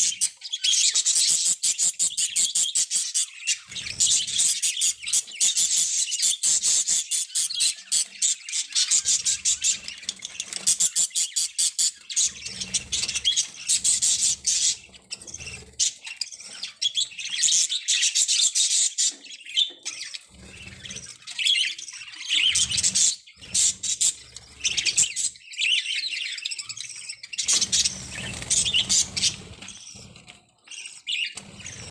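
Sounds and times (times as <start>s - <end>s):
budgerigars chattering and chirping: 0.0s - 31.9s.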